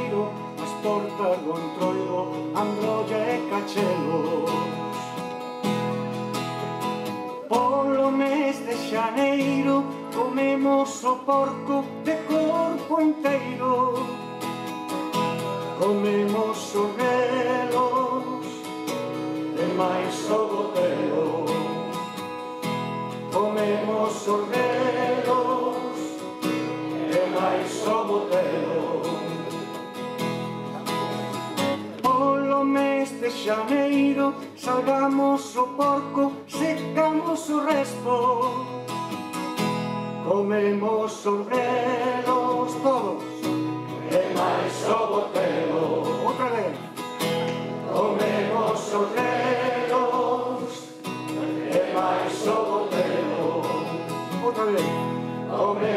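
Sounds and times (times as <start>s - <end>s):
man singing: 0.0s - 5.3s, 7.4s - 14.3s, 15.7s - 22.2s, 23.2s - 29.9s, 31.6s - 38.8s, 40.2s - 47.0s, 47.8s - 55.9s
strummed acoustic guitar: 0.0s - 55.9s.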